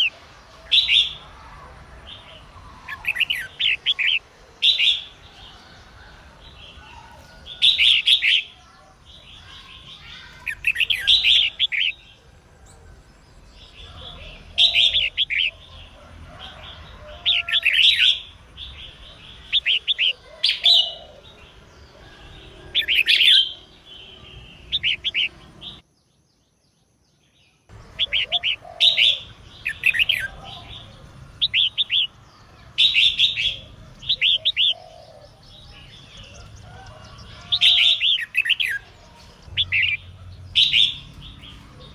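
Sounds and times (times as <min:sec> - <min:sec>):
bird chirping phrases: 0:00.0 - 0:41.9.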